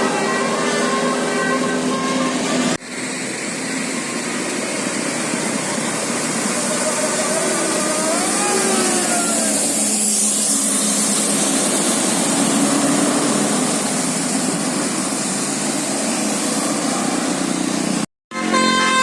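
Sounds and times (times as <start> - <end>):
bus engine running: 0.0 - 19.0
road and air noise hiss: 0.0 - 19.0.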